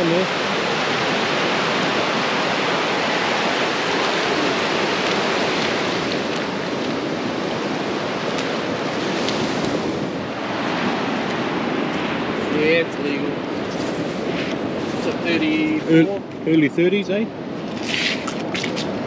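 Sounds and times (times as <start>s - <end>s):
small waves breaking on sand: 0.0s - 16.6s.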